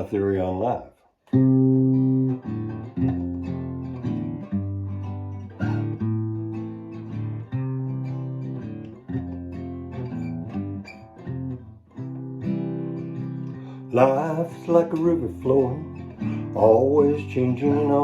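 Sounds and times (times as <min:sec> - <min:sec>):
guitar strumming chords: 0:01.3 - 0:18.0.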